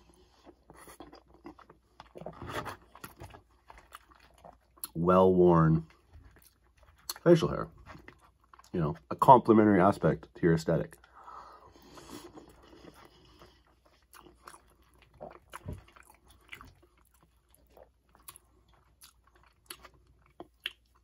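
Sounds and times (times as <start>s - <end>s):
wet chewing sounds: 0.0s - 5.1s, 5.8s - 9.4s, 10.8s - 21.0s.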